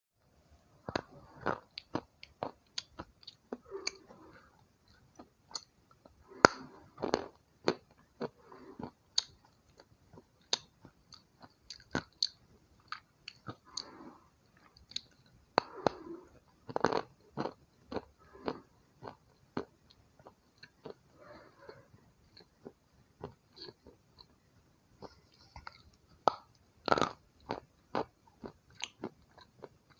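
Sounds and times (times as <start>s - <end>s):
gritty chewing: 0.6s - 24.4s, 25.0s - 29.9s.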